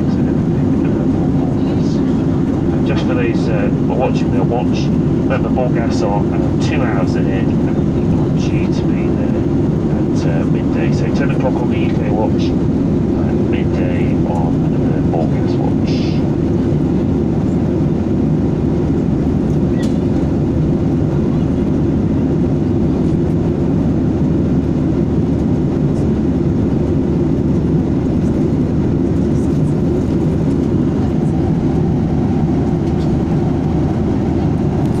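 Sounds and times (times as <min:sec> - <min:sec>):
airliner cabin noise: 0:00.0 - 0:35.0.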